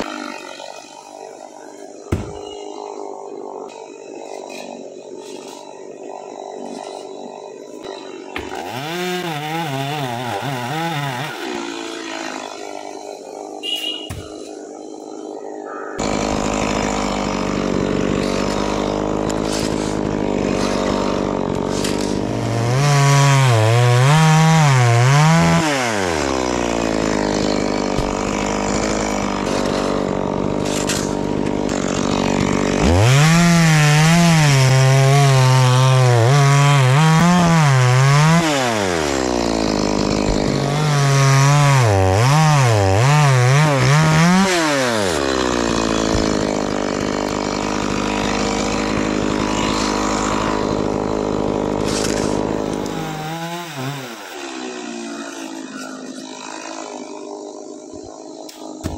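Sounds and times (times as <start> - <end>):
chainsaw cutting into wood: 0.0 - 1.2, 1.9 - 2.8, 6.6 - 14.9, 16.0 - 58.9
chainsaw idling and revving: 0.0 - 5.1, 5.7 - 15.3, 16.0 - 58.9.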